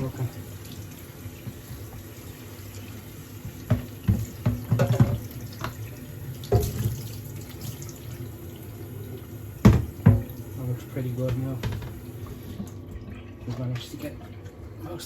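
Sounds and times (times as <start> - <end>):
tap water running and splashing: 0.0 - 15.0.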